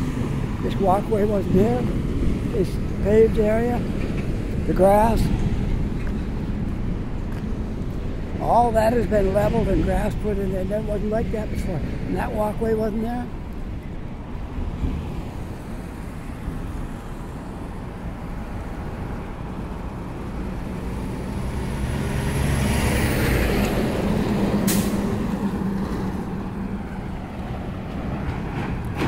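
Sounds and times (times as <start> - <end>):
city traffic: 0.0 - 29.0
heavy vehicle engine rumble: 0.0 - 29.0.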